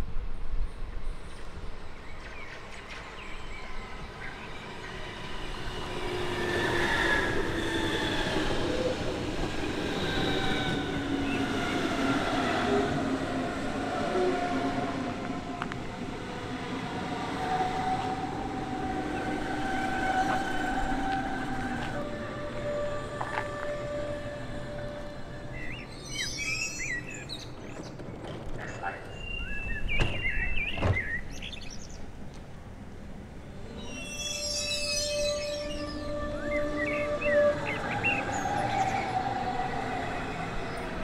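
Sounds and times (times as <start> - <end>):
train wheels rumbling on rails: 0.0 - 33.8.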